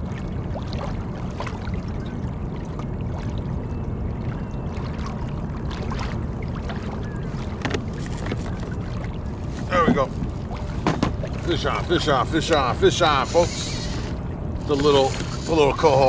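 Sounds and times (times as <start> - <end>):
wind and water rushing: 0.0 - 16.0.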